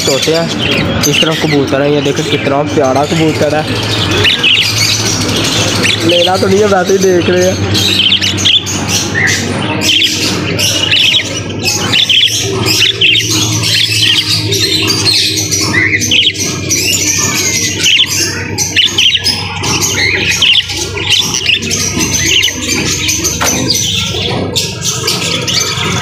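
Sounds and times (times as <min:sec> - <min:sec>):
parrots chirping and squawking: 0:00.0 - 0:26.0
steady low hum: 0:00.0 - 0:26.0.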